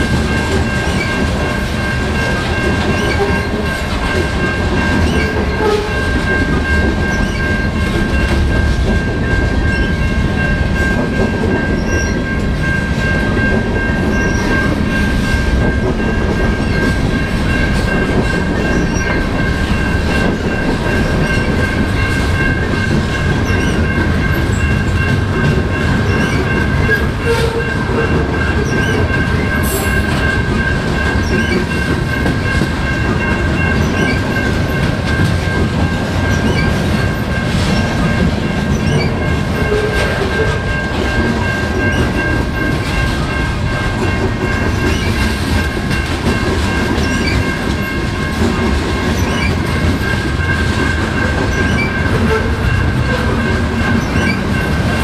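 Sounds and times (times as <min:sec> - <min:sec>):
freight train cars rumbling: 0:00.0 - 0:55.0.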